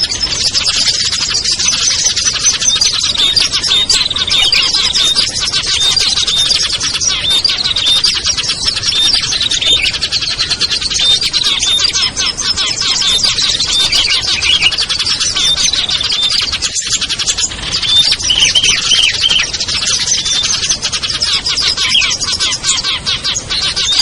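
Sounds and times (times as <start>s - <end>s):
songbirds chirping and twittering: 0.0s - 24.0s.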